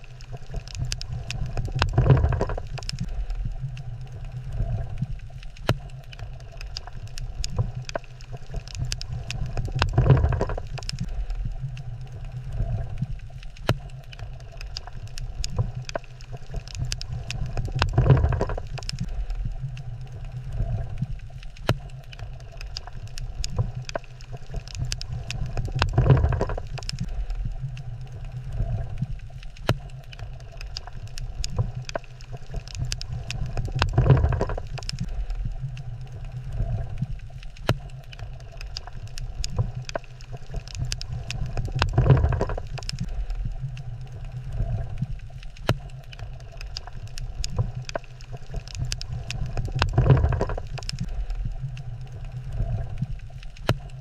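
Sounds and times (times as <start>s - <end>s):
low underwater rumble: 0.0s - 54.0s.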